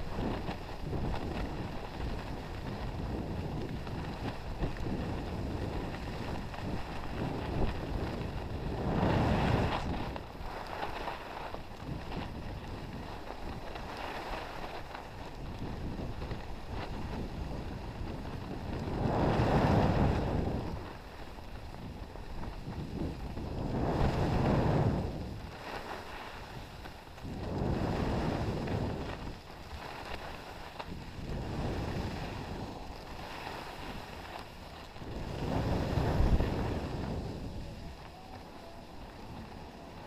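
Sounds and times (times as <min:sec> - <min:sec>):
skis sliding over snow: 0:00.0 - 0:40.0
wind rushing over microphone: 0:00.0 - 0:40.0.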